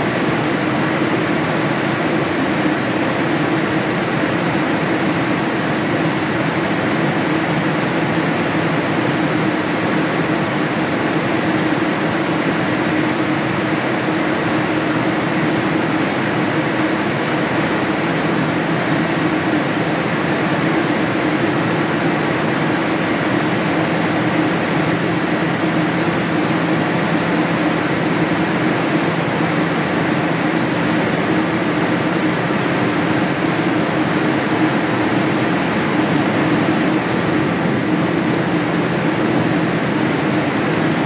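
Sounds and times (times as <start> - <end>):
low even drone: 0.0 - 41.0
rush of air in aircraft cabin: 0.0 - 41.0.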